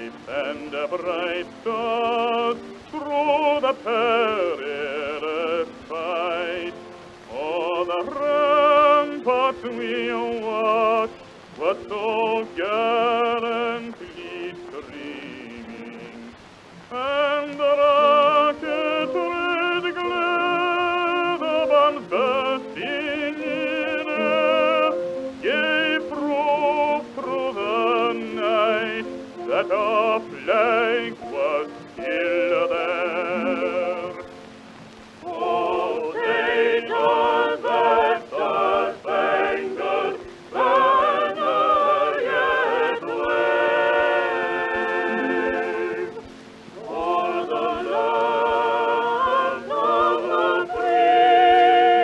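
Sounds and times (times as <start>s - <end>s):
operatic singing with accompaniment: 0.0s - 52.0s.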